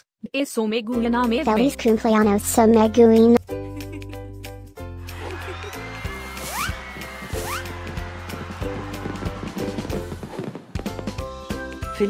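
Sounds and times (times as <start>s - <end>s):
upbeat background music: 0.9s - 12.0s.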